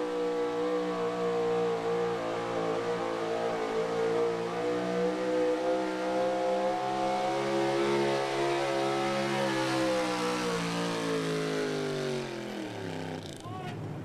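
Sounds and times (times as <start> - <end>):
truck engine at high revs: 0.0 - 14.0.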